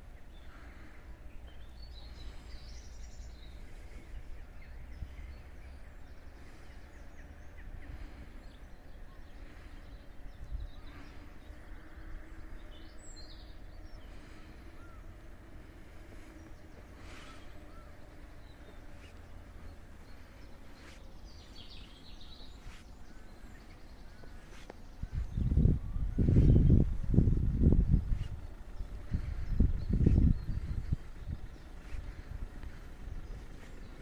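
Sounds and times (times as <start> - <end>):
birds chirping and singing: 0.0 - 34.0
steady low rumble: 0.0 - 34.0.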